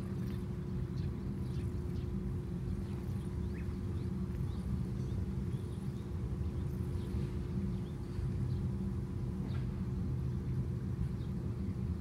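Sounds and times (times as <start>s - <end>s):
constant low hum: 0.0s - 12.0s
low outdoor rumble: 0.0s - 12.0s.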